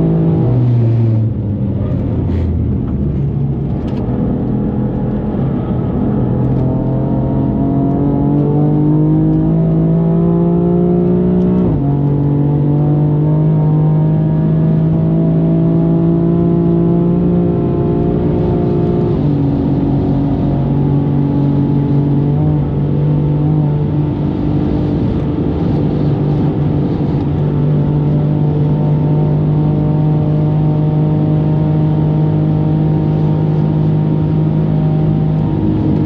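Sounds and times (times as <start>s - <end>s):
car engine under full throttle: 0.0s - 36.0s.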